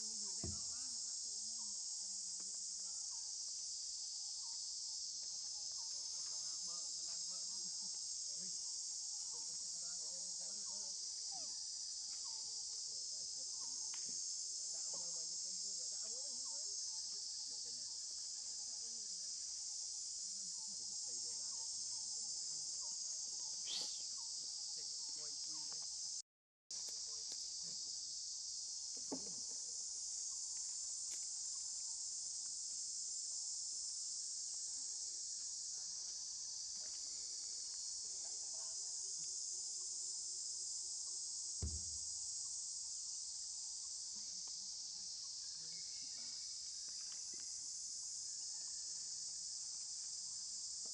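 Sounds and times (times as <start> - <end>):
high-pitched insect chorus: 0.0 - 50.9.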